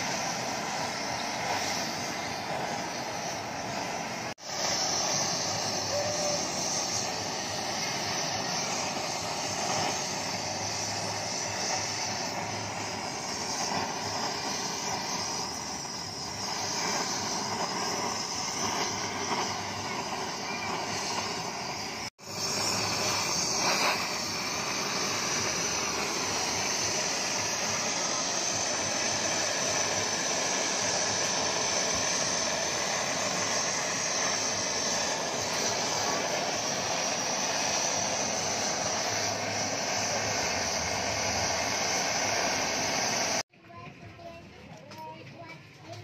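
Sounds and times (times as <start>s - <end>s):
gas torch flame roaring: 0.0s - 43.5s.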